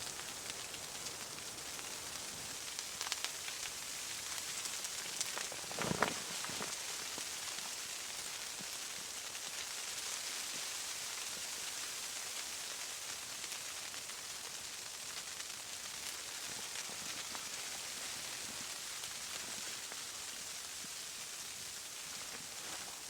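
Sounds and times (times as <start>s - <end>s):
snow pattering on tent fabric: 0.0s - 23.0s.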